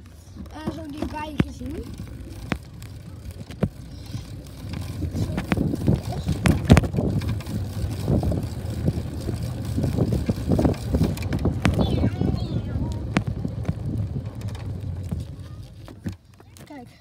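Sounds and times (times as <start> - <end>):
bicycle tyres rumbling on bricks: 0.0 - 17.0
bike rattling and knocking: 0.0 - 17.0
wind on microphone: 1.8 - 16.0.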